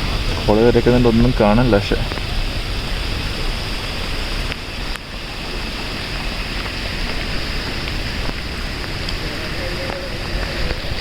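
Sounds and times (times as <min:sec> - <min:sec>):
heavy rain: 0:00.0 - 0:11.0
wind buffeting microphone: 0:00.0 - 0:11.0.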